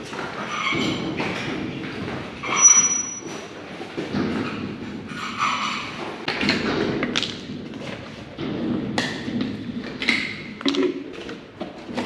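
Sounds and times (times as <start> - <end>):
metal equipment knocks and clanks: 0.0 - 12.0.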